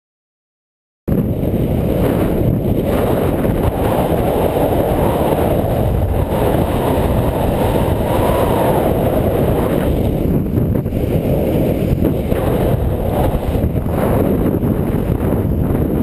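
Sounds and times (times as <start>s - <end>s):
wind buffeting microphone: 1.1s - 16.0s.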